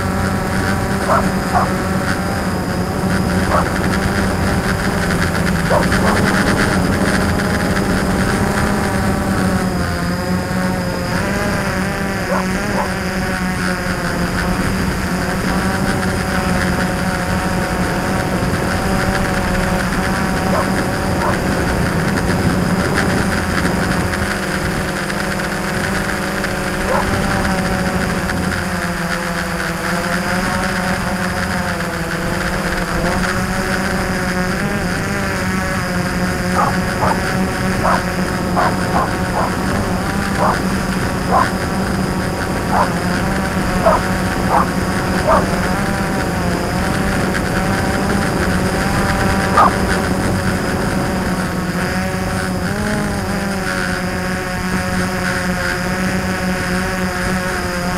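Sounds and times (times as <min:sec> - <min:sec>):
drone motors and propellers whining: 0:00.0 - 0:57.9.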